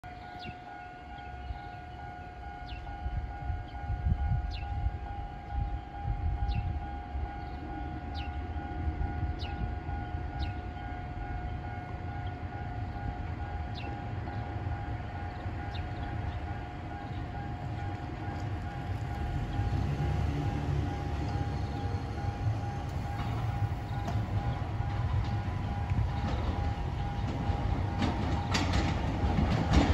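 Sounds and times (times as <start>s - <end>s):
wind rumbling on microphone: 2.6s - 11.8s, 12.9s - 29.9s.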